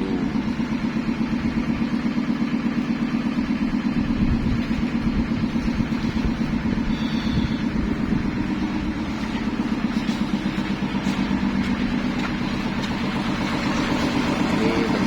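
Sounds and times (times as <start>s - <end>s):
pulsing processing machinery: 0.0s - 15.0s.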